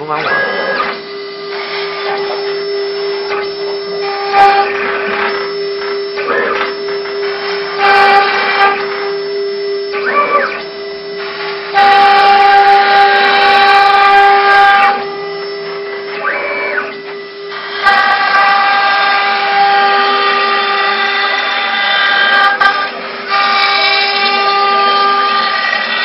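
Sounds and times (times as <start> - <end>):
axis motor whine rising and falling: 0.0 - 26.0
end mill cutting plastic: 0.0 - 26.0
router spindle whining: 0.0 - 26.0.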